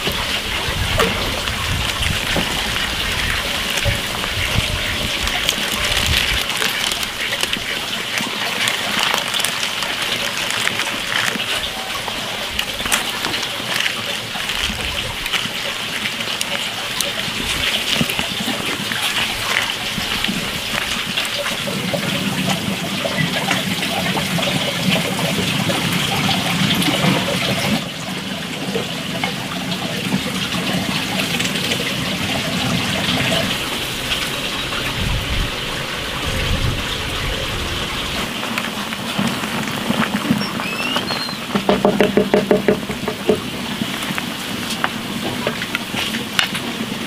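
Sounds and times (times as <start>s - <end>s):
water trickling and splashing: 0.0s - 47.0s.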